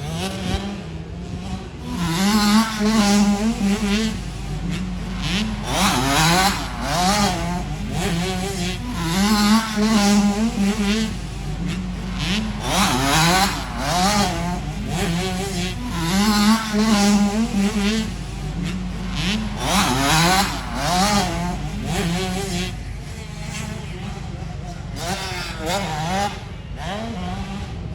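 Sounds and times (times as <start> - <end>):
motocross bike engines revving: 0.0 - 27.9.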